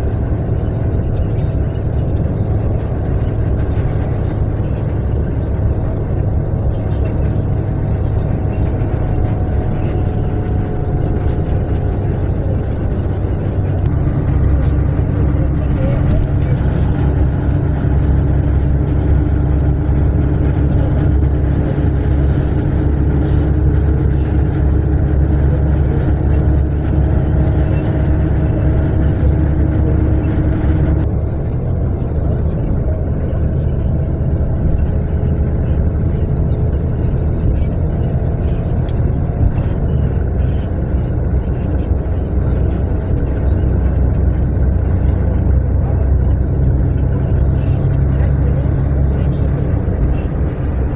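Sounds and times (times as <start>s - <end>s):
bus engine and road noise: 0.0s - 50.9s.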